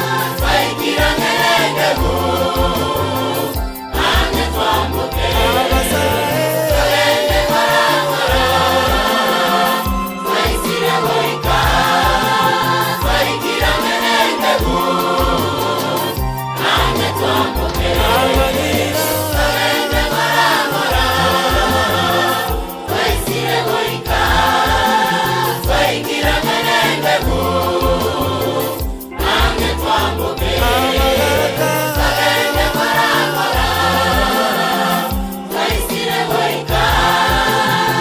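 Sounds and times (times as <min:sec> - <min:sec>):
choir singing gospel: 0:00.0 - 0:38.0.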